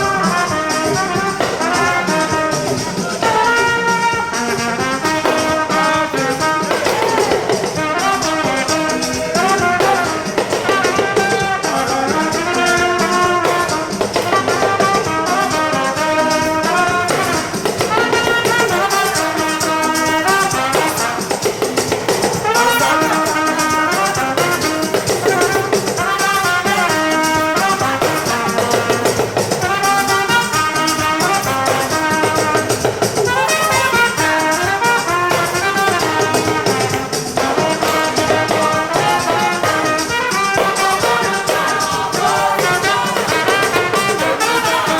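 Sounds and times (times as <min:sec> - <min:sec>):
melody over busy beat: 0:00.0 - 0:44.9.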